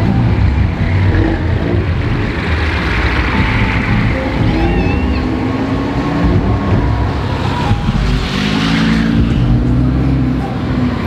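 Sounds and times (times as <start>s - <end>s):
sports car engines running: 0.0s - 11.0s.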